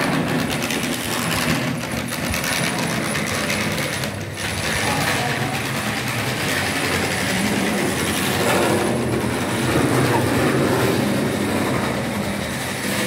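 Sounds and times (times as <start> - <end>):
small wheels rattling on rails: 0.0 - 13.0.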